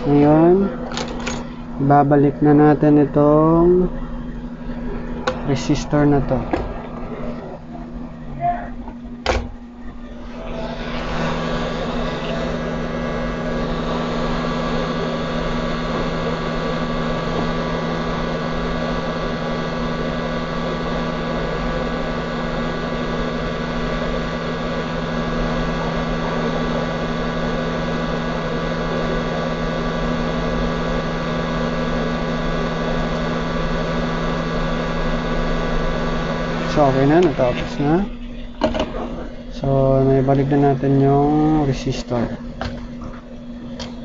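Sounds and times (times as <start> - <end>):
hot air station blowing: 0.0 - 44.0.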